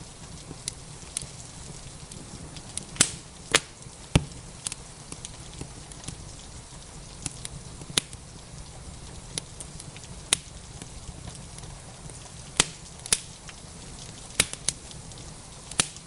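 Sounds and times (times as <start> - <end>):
rain hissing: 0.0 - 16.0
wood fire crackling: 0.0 - 16.0.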